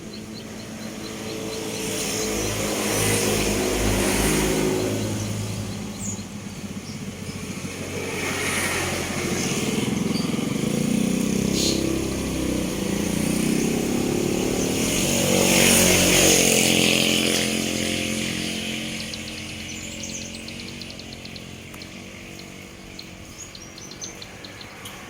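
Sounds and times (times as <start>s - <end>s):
motorcycle passing: 0.0s - 25.0s
small bird ticking and chirping: 0.0s - 25.0s.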